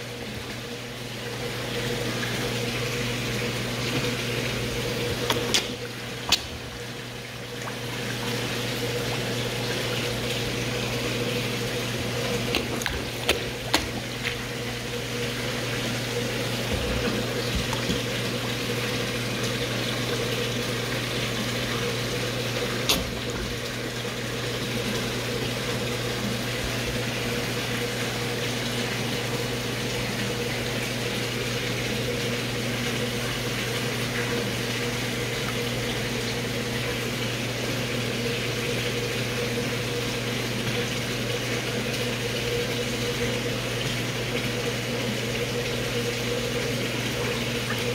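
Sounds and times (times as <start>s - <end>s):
low pump hum: 0.0s - 47.9s
water rushing: 0.1s - 47.9s.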